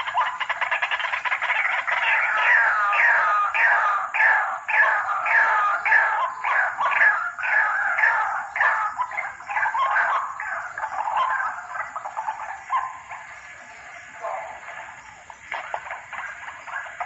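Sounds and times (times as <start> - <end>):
waterhen calling harsh notes: 0.0 - 17.0.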